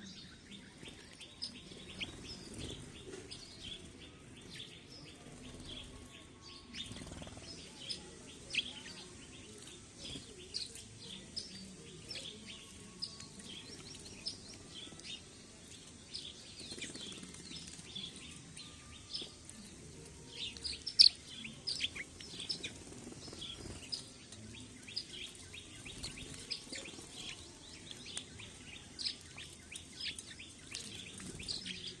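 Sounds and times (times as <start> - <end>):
flock of small birds chirping: 0.0 - 32.0.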